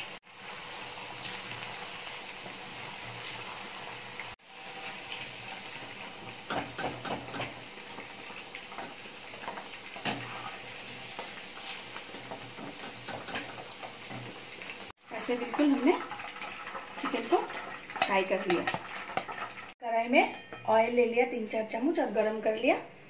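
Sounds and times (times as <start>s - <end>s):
chicken deep-frying in oil: 0.0s - 20.2s.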